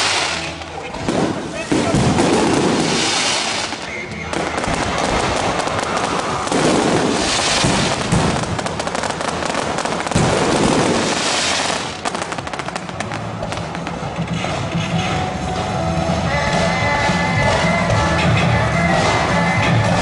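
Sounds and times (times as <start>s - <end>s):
fireworks cracking and banging: 0.0s - 20.0s
music playing: 0.0s - 20.0s.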